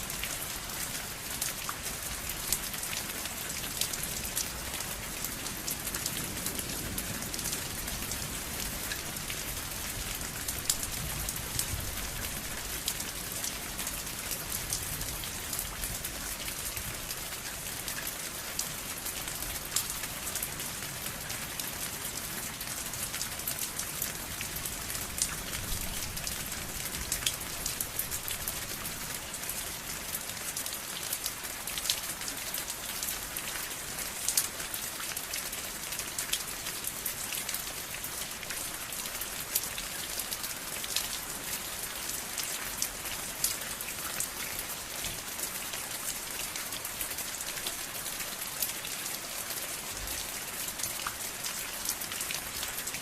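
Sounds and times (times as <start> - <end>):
rain tapping on a surface: 0.0 - 53.0.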